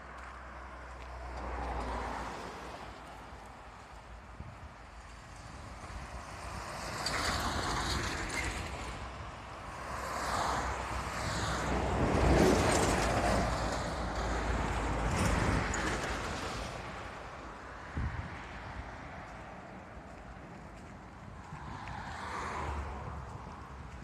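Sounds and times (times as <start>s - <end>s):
vehicles passing at speed: 0.0s - 24.0s.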